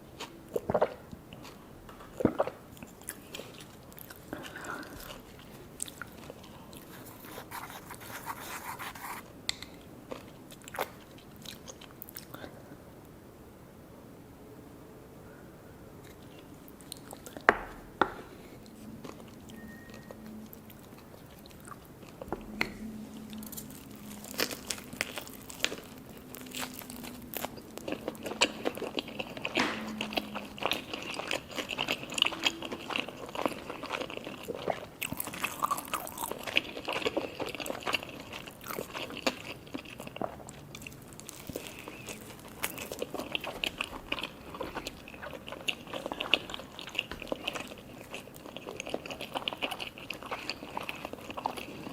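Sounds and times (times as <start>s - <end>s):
crunchy chewing: 0.0s - 12.4s, 16.0s - 51.9s.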